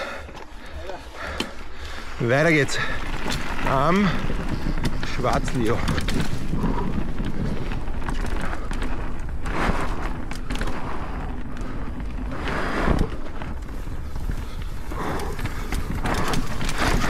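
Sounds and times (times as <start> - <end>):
bike rattling and clicking: 0.0 - 17.0
bike tyres rolling over dirt: 0.0 - 17.0
wind rumble on microphone: 2.7 - 17.0.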